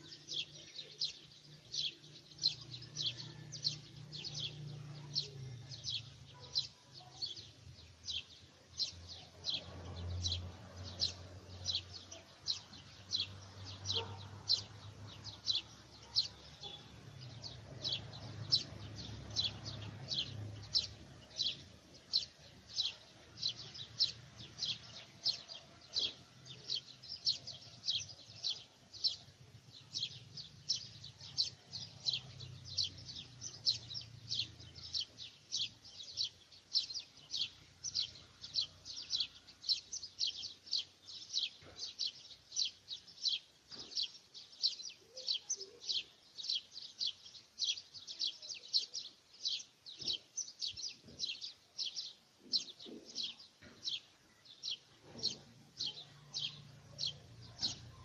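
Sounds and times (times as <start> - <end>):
small bird chirping: 0.0 - 58.0.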